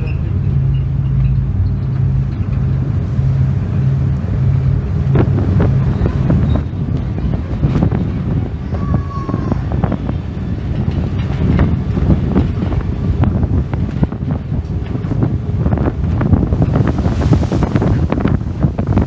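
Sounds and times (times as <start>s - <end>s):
ferry engine hum: 0.0s - 19.0s
wind buffeting microphone: 0.0s - 19.0s.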